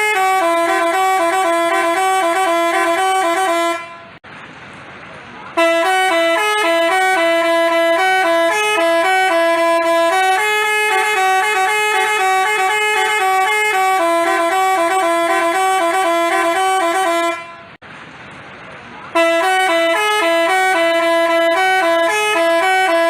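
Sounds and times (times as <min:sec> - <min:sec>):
bus horn playing melody: 0:00.0 - 0:04.2, 0:05.6 - 0:17.8, 0:19.1 - 0:23.0.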